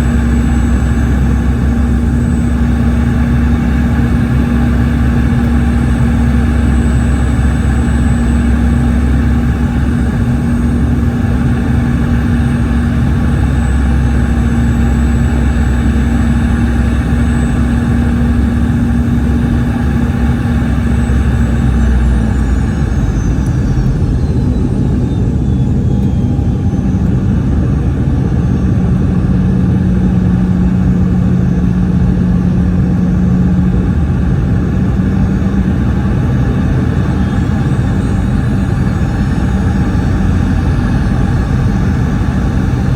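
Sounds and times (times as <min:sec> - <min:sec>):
jet engine drone with high whine: 0:00.0 - 0:42.9.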